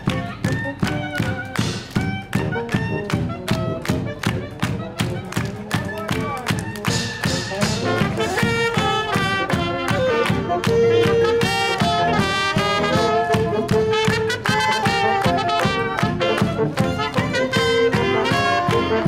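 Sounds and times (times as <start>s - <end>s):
brass band playing jazzy tune: 0.0s - 19.0s
people clapping along: 0.0s - 19.0s.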